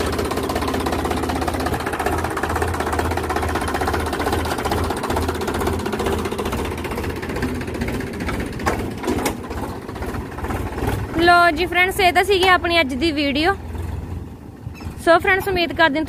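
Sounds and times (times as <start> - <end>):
tractor engine throbbing: 0.0 - 16.0.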